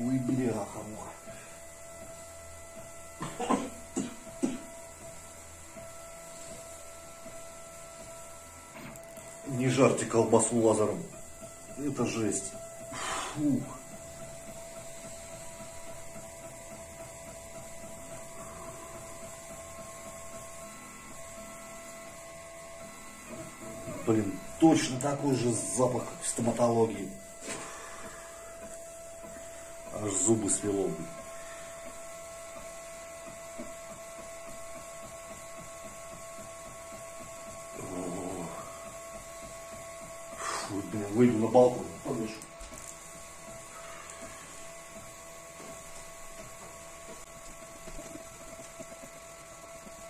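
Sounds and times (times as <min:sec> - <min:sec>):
laser engraver humming and whining: 0:00.0 - 0:50.0.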